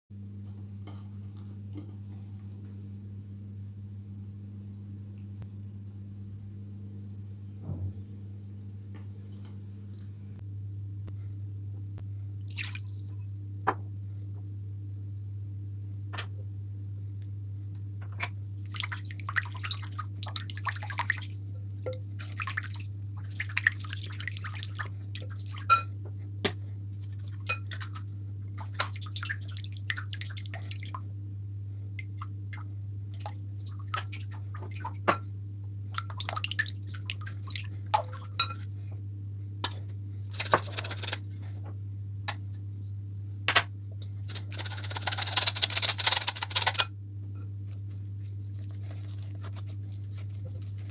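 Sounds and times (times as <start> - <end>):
steady low hum: 0.2 - 50.9.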